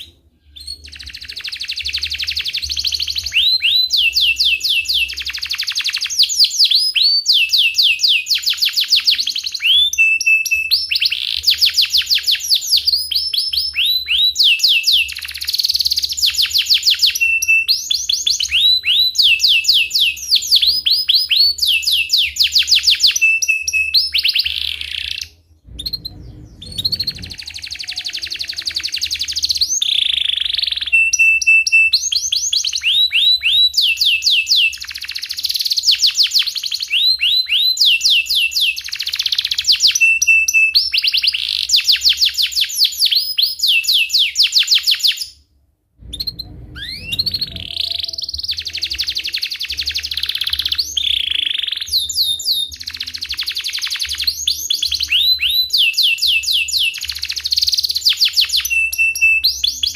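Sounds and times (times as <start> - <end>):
canary singing trills: 0.0 - 45.4, 46.0 - 59.9.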